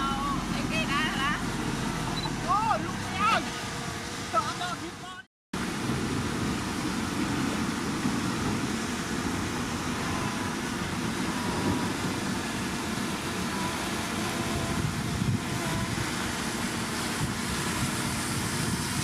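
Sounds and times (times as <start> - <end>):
diesel machinery engine rumble: 0.0 - 19.0.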